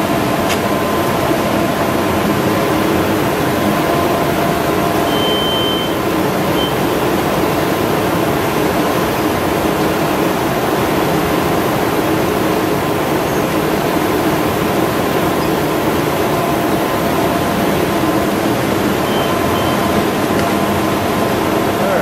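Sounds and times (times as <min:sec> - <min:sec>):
printing press mechanical rush: 0:00.2 - 0:22.0.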